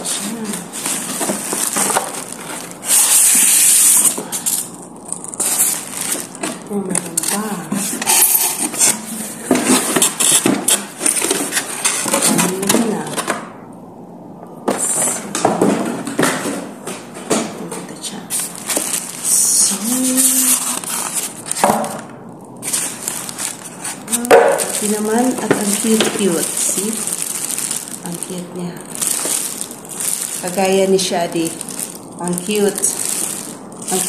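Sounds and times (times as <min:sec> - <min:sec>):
foam packing creaking: 0:00.0 - 0:13.3, 0:18.3 - 0:34.0
plastic wrapping crinkling: 0:00.0 - 0:13.5, 0:14.7 - 0:34.0.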